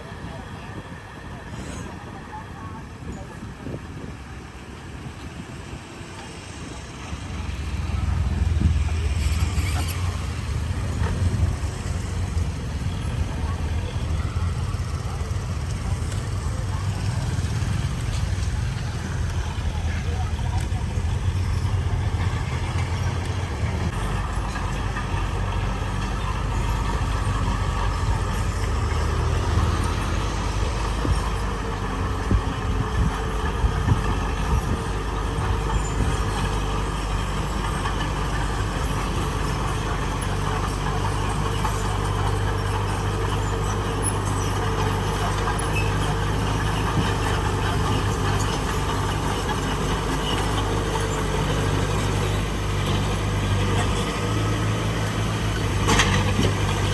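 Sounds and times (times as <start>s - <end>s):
heavy diesel engine running: 0.0s - 56.9s
knocks and rattles: 7.4s - 56.9s.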